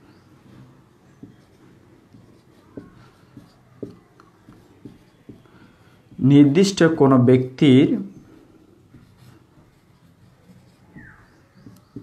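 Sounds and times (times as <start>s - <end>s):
marker pen on whiteboard: 0.0s - 12.0s.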